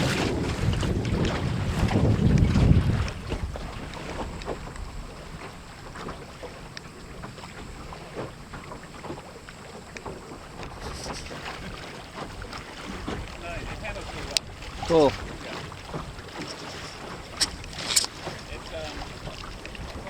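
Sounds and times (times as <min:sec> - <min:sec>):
wind rumble on microphone: 0:00.0 - 0:08.1, 0:10.4 - 0:20.0
water splashing against boat hull: 0:00.0 - 0:20.0.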